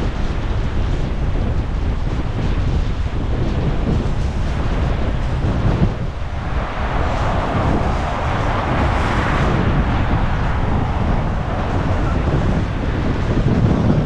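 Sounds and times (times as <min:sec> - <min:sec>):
rushing wind noise: 0:00.0 - 0:14.0
wind buffeting microphone: 0:00.0 - 0:14.0.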